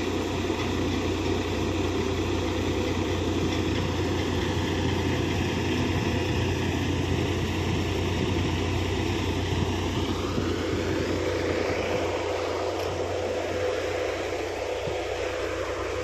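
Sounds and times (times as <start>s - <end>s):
low engine drone: 0.0s - 16.0s
threshing machine whirring: 0.0s - 16.0s.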